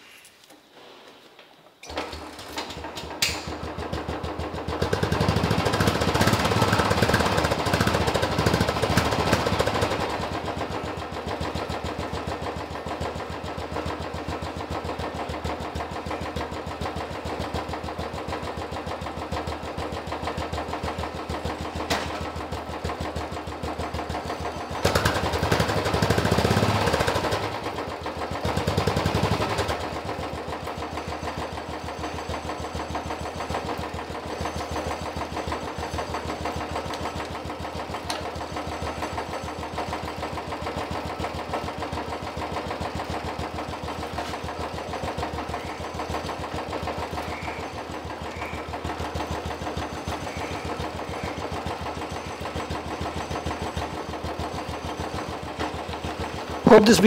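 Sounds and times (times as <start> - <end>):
motorcycle engine idling and revving: 1.9 - 57.0.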